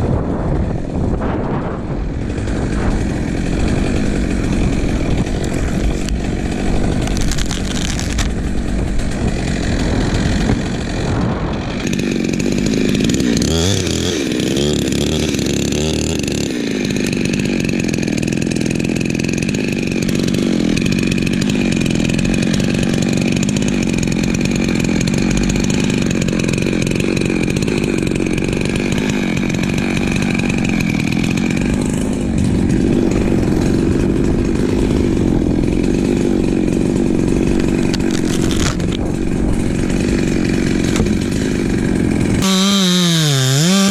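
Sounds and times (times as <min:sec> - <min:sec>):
chainsaw running: 0:00.0 - 0:43.9.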